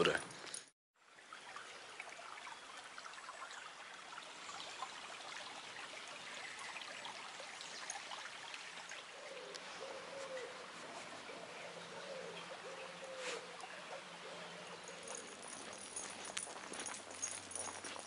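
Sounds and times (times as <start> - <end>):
brook babbling over stones: 1.0 - 15.6.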